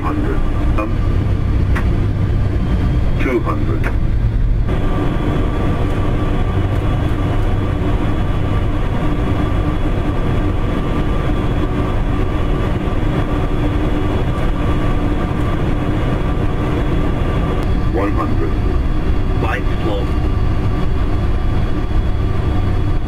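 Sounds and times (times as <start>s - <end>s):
aircraft cockpit engine drone: 0.0s - 23.0s
airflow noise: 0.0s - 23.0s.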